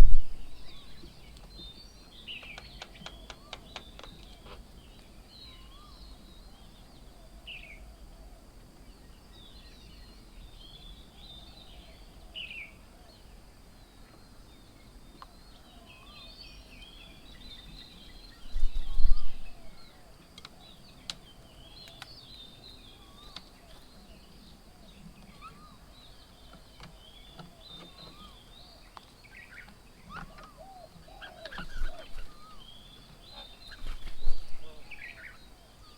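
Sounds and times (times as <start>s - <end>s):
birds chirping and calling: 0.0s - 35.9s.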